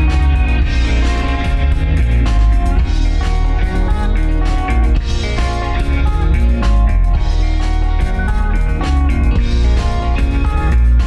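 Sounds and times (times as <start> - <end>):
bass: 0.0 - 11.0
drums: 0.0 - 11.0
rock guitar: 0.0 - 11.0.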